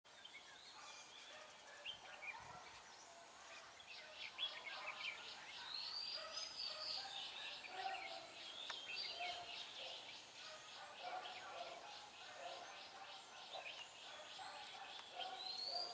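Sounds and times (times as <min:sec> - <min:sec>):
bulbuls chirping and trilling: 0:00.2 - 0:15.9.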